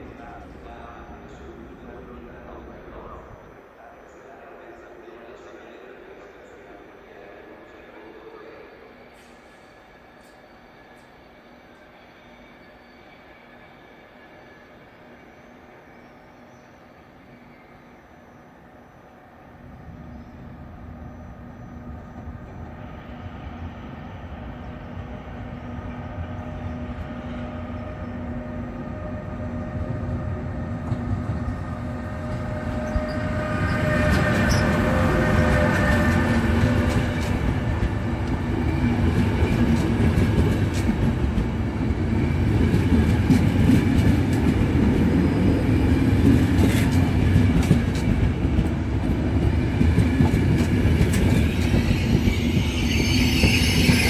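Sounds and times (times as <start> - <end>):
electric train on rails: 0.0 - 54.0
train whine of steady tones: 0.0 - 54.0.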